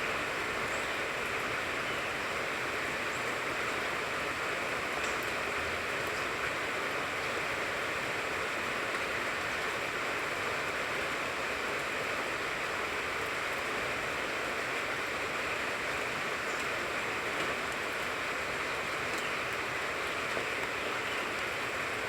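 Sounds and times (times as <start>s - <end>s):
rain falling on a tree: 0.0s - 22.0s.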